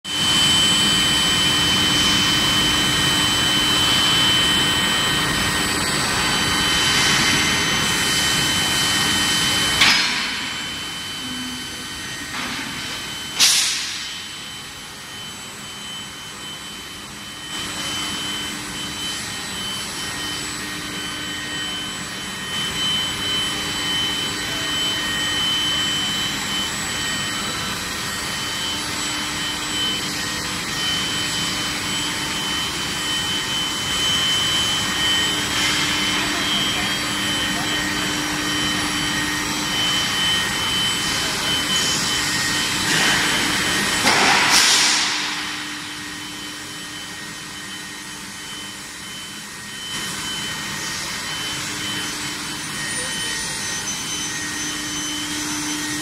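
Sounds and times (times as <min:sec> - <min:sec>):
machine drone with high whine: 0:00.1 - 0:56.0.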